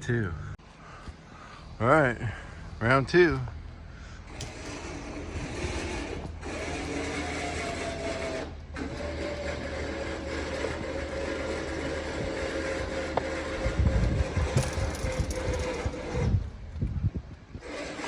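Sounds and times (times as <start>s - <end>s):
electric winch motor whining: 2.3s - 16.8s, 17.5s - 18.0s.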